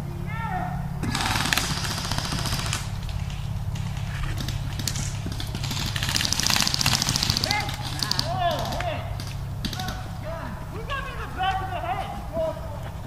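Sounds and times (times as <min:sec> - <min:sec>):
airsoft guns firing bursts: 0:01.0 - 0:12.4.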